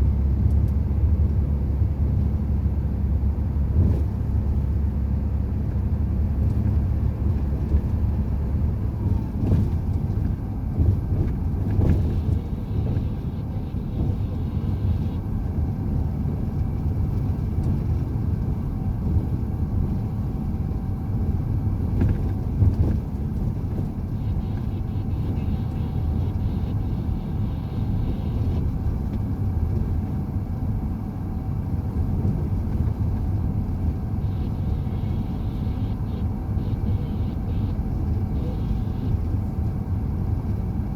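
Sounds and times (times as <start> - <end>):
heavy truck engine and road rumble: 0.0 - 40.9.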